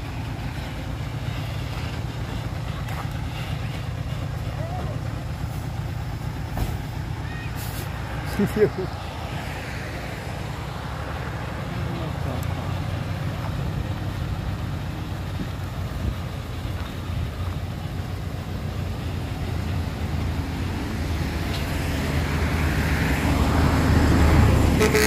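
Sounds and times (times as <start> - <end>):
truck diesel engine running: 0.0 - 25.0.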